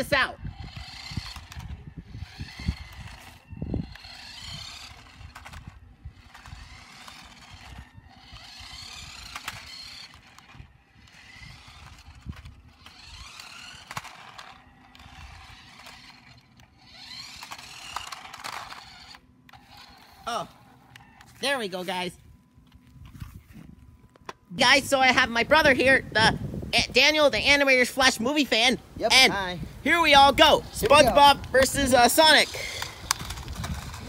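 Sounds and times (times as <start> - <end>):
toy car electric motor whirring: 0.0 - 25.9, 28.6 - 34.0.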